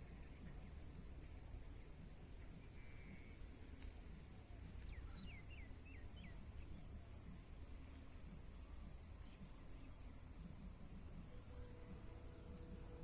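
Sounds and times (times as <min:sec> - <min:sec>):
insects chirping: 0:00.0 - 0:13.0
low steady rumble: 0:00.0 - 0:13.0.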